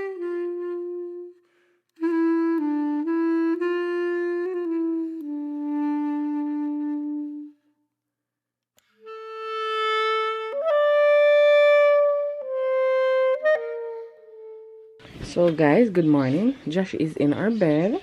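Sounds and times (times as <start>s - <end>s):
solo wind instrument: 0.0s - 7.9s, 8.8s - 15.5s.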